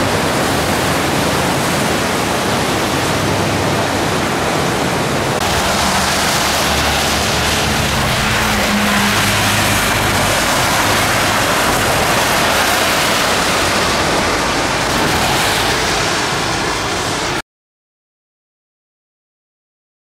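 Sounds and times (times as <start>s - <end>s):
floodwater rushing over spillway: 0.0s - 17.4s
traffic on wet road: 0.0s - 17.4s
vehicle engine hum: 0.0s - 17.4s.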